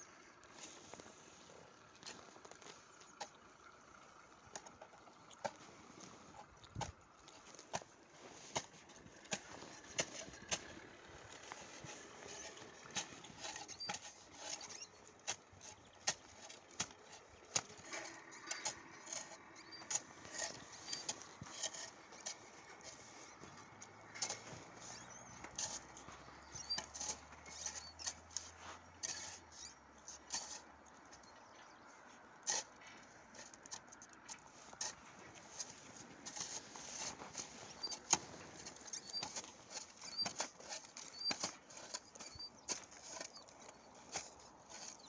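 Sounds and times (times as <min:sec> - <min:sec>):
toy digger clicking and scraping: 0:08.5 - 0:45.0.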